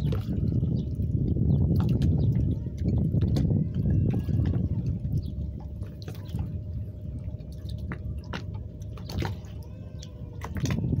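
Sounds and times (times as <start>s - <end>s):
water lapping against boat hull: 0.0s - 11.0s
water slaps and drips: 0.0s - 11.0s.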